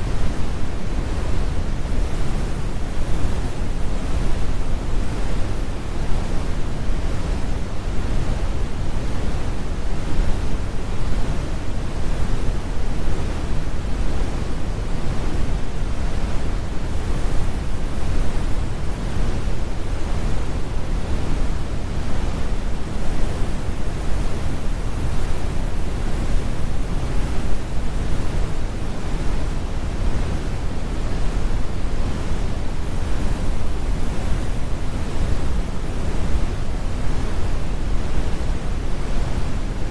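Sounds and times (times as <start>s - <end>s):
brown noise rumble: 0.0s - 39.9s.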